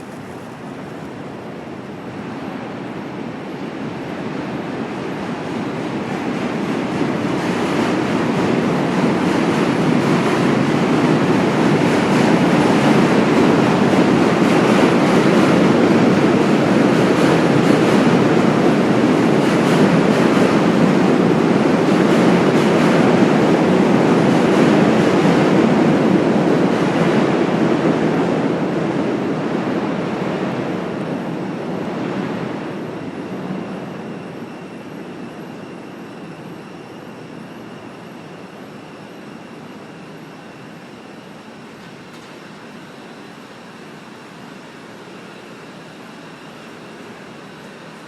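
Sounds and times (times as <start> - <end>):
train rumbling past: 0.0 - 48.0.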